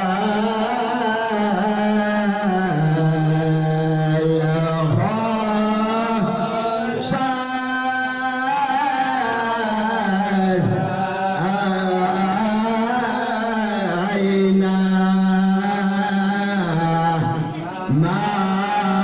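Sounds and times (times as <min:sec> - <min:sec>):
men chanting devotional verses: 0:00.0 - 0:19.0.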